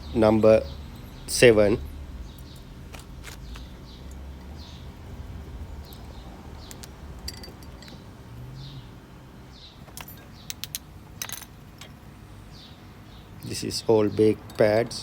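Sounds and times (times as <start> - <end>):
small bird chirping: 0.0 - 10.7, 11.7 - 13.7
steady low hum: 0.0 - 15.0.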